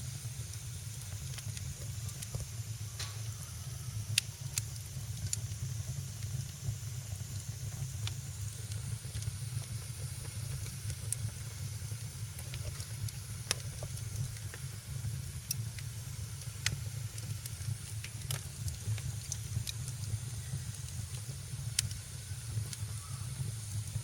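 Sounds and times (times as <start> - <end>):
fire rumble and hiss: 0.0 - 24.0
wood fire crackling and popping: 0.0 - 24.0.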